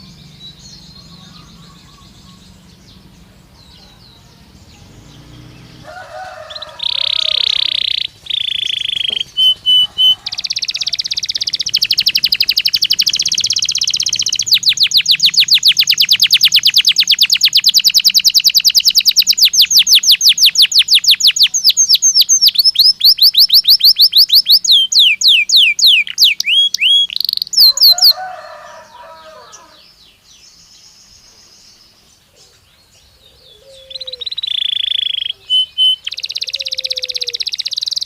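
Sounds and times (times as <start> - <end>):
canary singing: 0.0 - 38.0.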